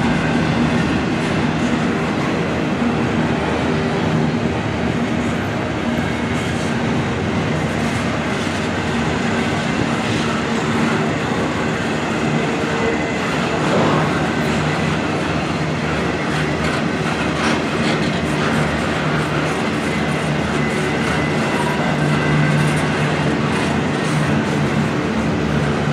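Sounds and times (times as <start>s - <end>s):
freight train wheels on rail: 0.0s - 25.9s.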